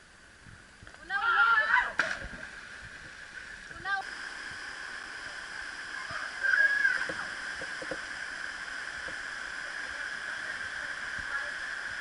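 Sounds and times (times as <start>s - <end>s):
waterfall cascading over rock: 0.0s - 12.0s.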